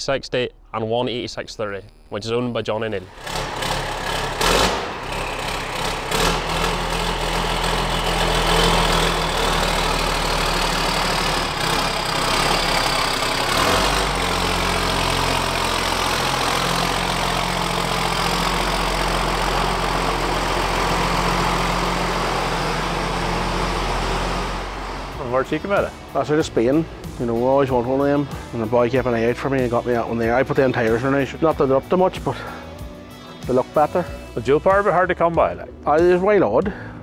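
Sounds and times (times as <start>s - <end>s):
tractor diesel engine running: 2.9s - 34.5s.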